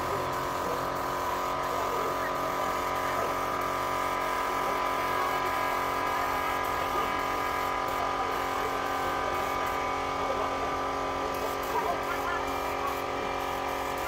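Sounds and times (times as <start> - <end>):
air compressor motor humming: 0.0 - 14.0
spray gun hissing: 0.0 - 14.0.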